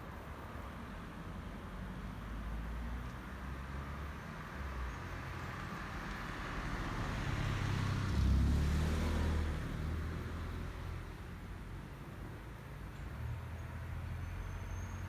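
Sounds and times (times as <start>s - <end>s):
car passing by: 0.4s - 15.0s.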